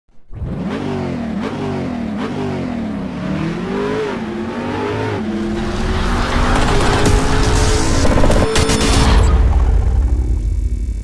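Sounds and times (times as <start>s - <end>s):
car engine accelerating hard: 0.2s - 10.1s.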